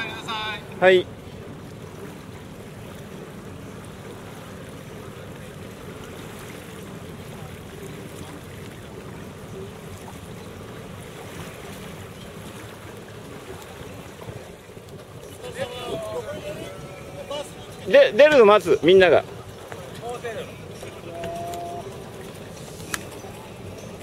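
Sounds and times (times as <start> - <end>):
boat engine low rumble: 0.0 - 24.0
water: 0.0 - 24.0
wind: 0.0 - 24.0.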